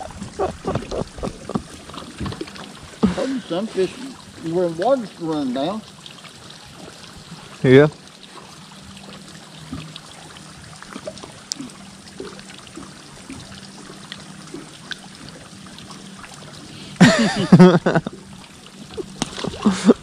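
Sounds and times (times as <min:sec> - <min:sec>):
water lapping against boat: 0:00.0 - 0:20.0.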